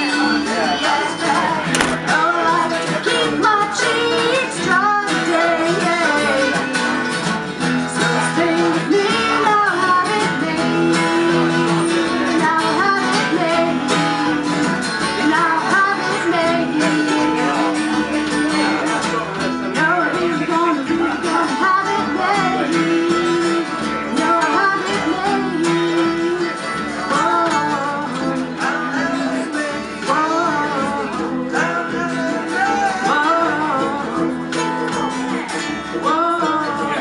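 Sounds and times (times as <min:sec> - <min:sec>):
person singing: 0:00.0 - 0:37.0
strummed acoustic guitar: 0:00.0 - 0:37.0.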